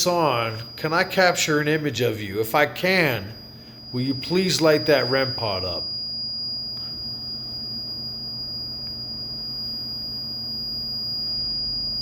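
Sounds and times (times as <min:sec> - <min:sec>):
high-pitched electronic tone: 0:00.0 - 0:12.0
low hum: 0:00.0 - 0:12.0
room noise: 0:00.0 - 0:12.0.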